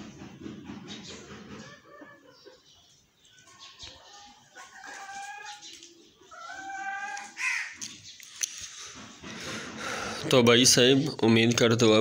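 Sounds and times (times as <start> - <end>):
chickens calling: 0.0 - 11.2.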